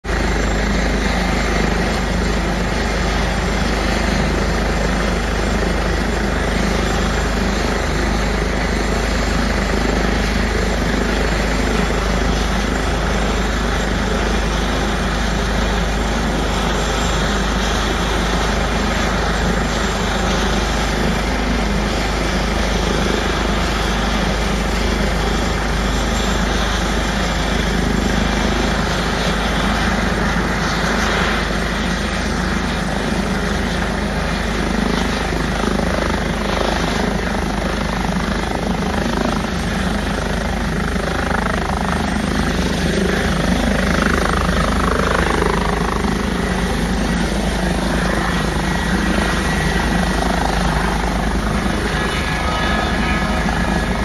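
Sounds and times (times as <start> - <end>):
helicopter engine and rotor whine: 0.0 - 54.0.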